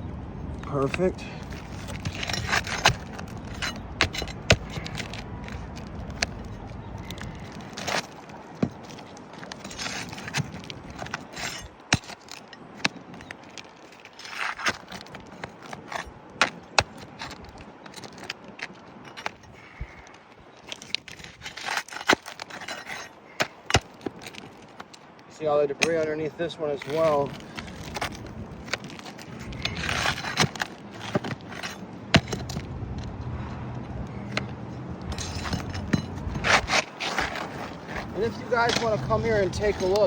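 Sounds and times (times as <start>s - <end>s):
shingles scraping and crackling: 0.5s - 40.0s.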